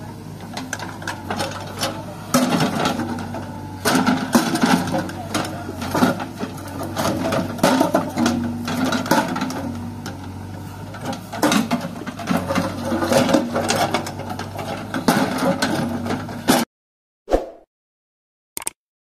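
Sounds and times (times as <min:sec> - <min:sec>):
diesel engine humming: 0:00.0 - 0:16.5.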